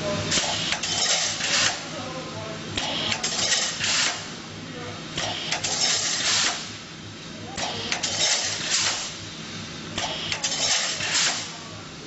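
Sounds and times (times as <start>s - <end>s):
welding machine hissing clatter: 0.1s - 12.0s.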